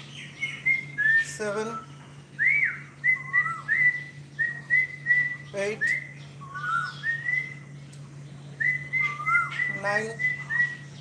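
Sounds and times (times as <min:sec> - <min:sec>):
songbird whistling: 0:00.0 - 0:11.0
steady low hum: 0:00.0 - 0:11.0.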